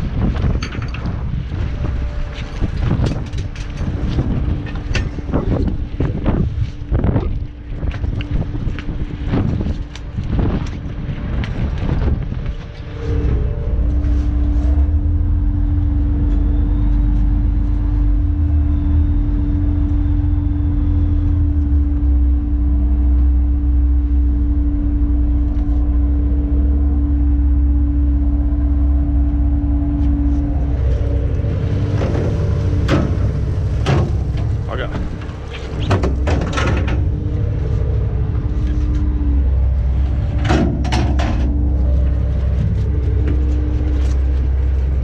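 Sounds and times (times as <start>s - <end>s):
boat diesel engine rumbling: 0.0s - 45.0s
steady hum: 0.0s - 45.0s.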